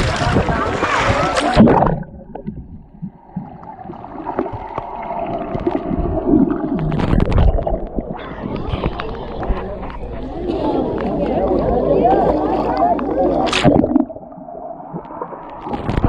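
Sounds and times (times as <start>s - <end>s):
muffled underwater sea sound: 0.0s - 16.0s
sea water splashing: 0.0s - 16.0s
swimmers kicking low rumble: 0.0s - 16.0s
faint bubbling: 0.3s - 16.0s.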